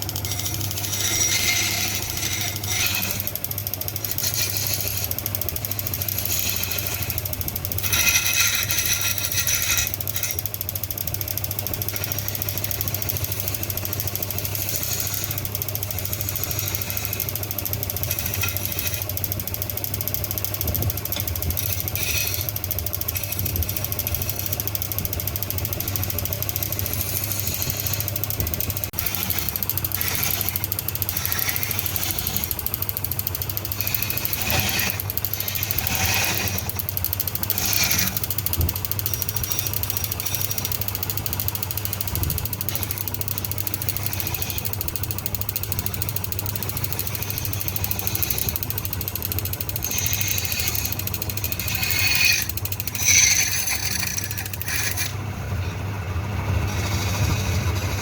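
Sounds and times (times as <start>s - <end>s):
workshop machinery humming: 0.0s - 58.0s.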